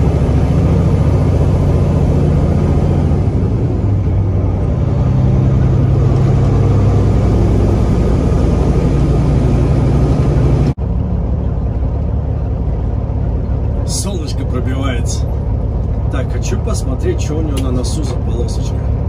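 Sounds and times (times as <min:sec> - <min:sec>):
diesel truck engine drone: 0:00.0 - 0:19.0
road noise: 0:00.0 - 0:19.0.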